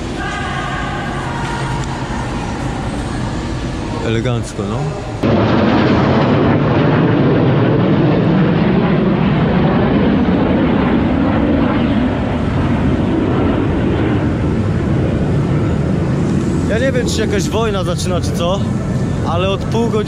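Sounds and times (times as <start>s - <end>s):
jet aircraft roar: 0.0s - 20.0s.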